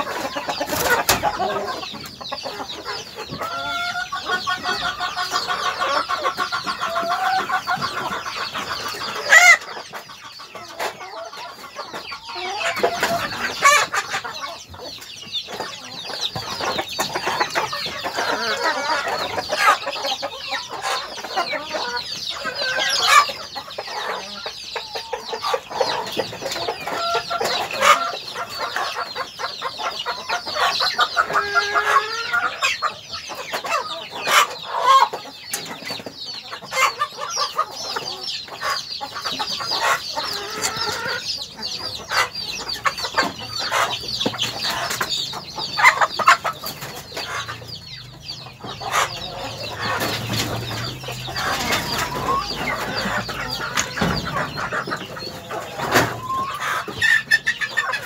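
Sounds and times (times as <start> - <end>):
hens clucking: 0.0 - 58.0.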